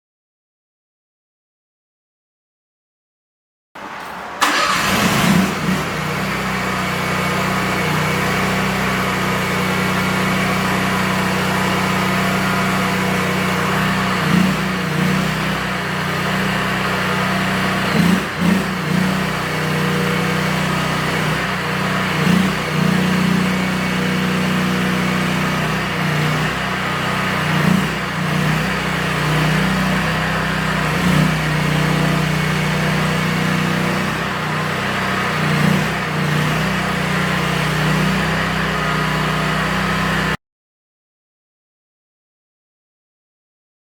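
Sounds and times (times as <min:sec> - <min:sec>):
track loader engine running: 0:03.8 - 0:40.4.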